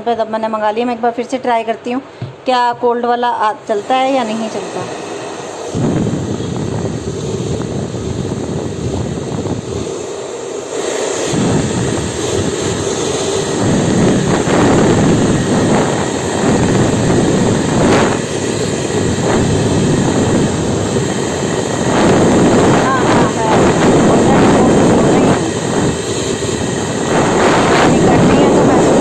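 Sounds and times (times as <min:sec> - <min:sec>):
hair dryer blowing: 0:03.5 - 0:29.0.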